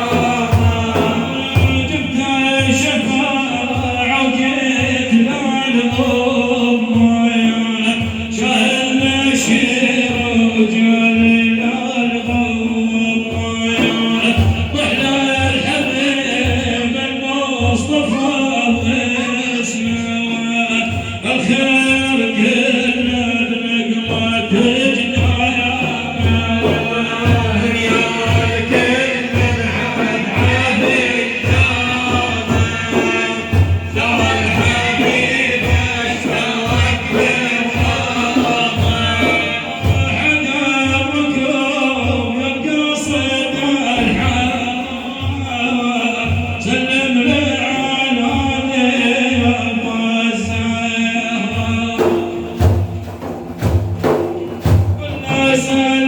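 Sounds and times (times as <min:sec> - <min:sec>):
men singing with chorus: 0:00.0 - 0:56.0
steady drum beat: 0:00.0 - 0:56.0.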